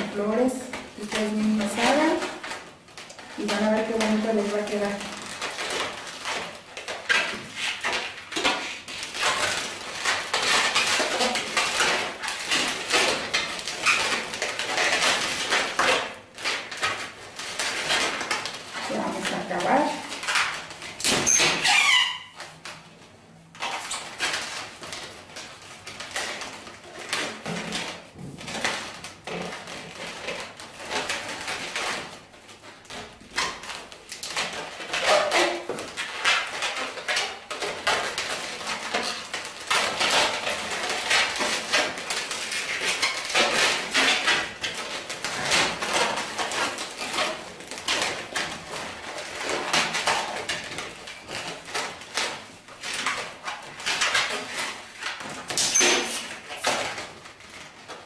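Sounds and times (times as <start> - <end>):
balloons squeaking and rubbing: 0.0 - 58.0.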